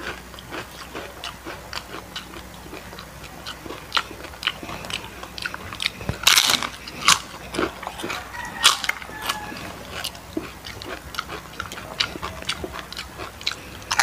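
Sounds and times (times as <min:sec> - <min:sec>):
crunching crispy chicken skin: 0:00.0 - 0:14.0.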